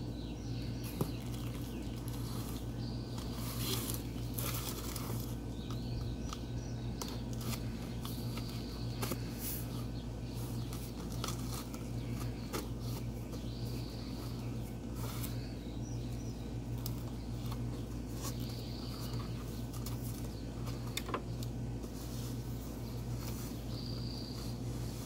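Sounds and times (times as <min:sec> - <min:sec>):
birds chirping faintly: 0:00.0 - 0:25.0
steady low hum: 0:00.0 - 0:25.0.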